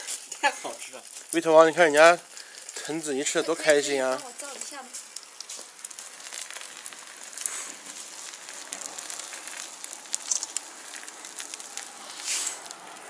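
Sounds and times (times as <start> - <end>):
barbecue grill sizzling: 0.0 - 13.0
sharp pops and crackles: 0.0 - 13.0.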